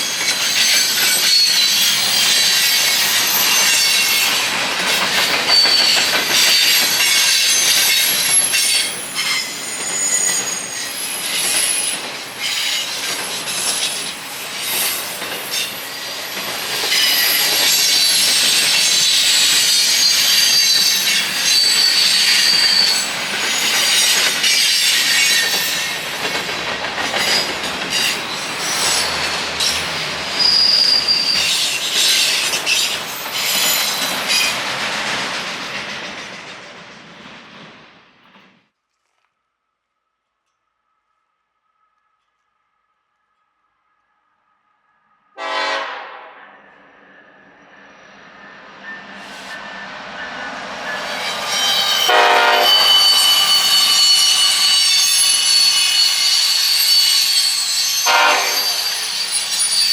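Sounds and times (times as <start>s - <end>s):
train wheels squealing on rails: 0.0s - 37.1s, 45.4s - 59.9s
train cars rumbling and clicking: 0.0s - 38.7s, 47.5s - 59.9s.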